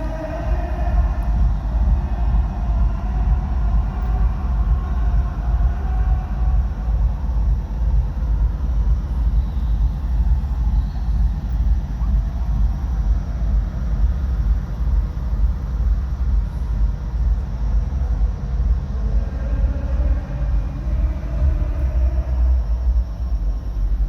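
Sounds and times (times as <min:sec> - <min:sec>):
distant party music bass: 0:00.0 - 0:24.0.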